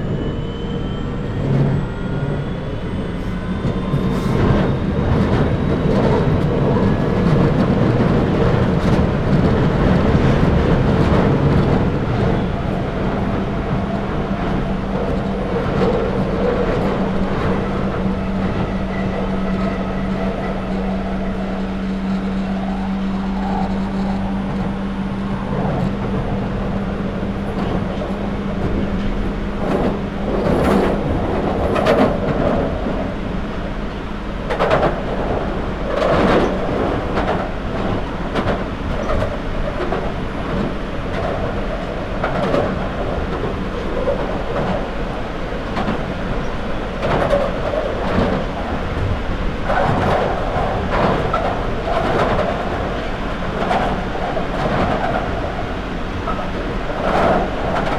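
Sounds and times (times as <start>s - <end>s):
train rumbling in tunnel: 0.0s - 57.9s.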